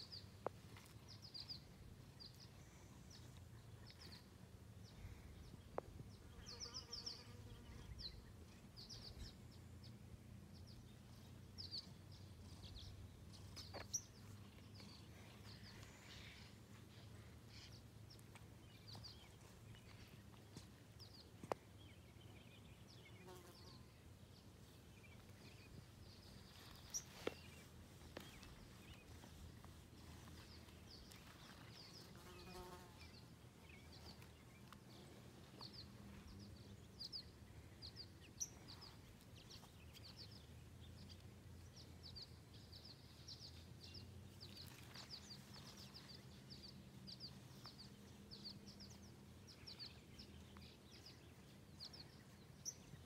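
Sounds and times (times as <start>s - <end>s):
faint outdoor ambience: 0.0s - 53.0s.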